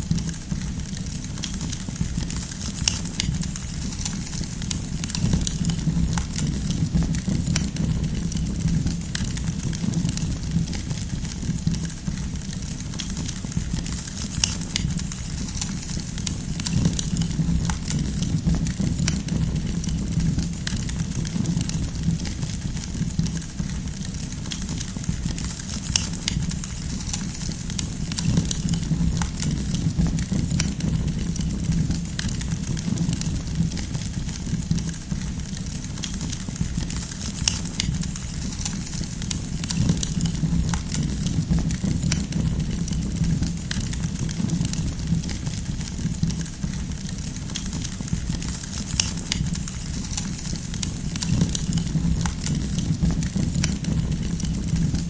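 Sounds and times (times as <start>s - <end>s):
campfire burning with crackles: 0.0s - 55.0s.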